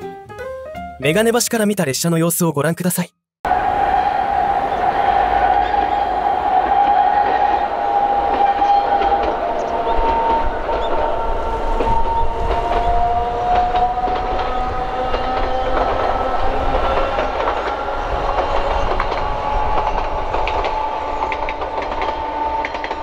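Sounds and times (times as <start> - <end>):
electric train whine: 3.5 - 23.0
low train rumble: 3.5 - 23.0
wheels clicking over rails: 3.6 - 23.0.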